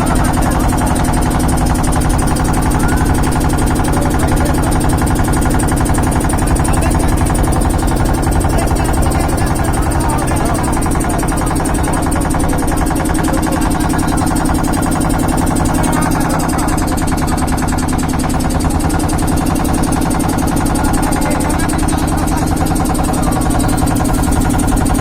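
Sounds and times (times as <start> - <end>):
engine-like drone: 0.0 - 25.0.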